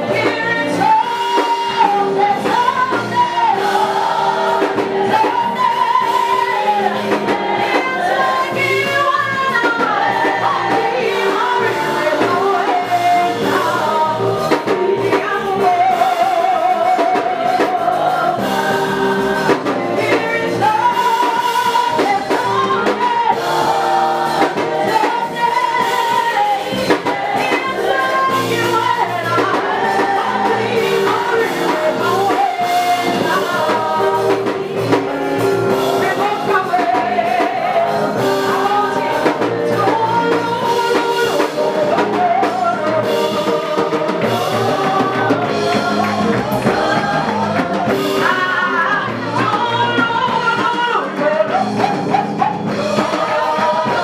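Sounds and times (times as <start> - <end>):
band with drums: 0.0 - 54.0
women singing in harmony: 0.0 - 54.0.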